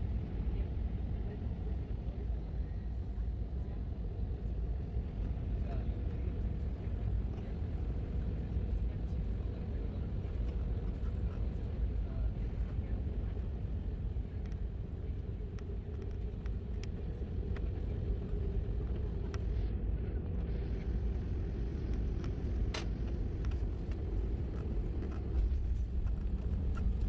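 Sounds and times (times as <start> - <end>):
jet engine cabin rumble: 0.0 - 27.0.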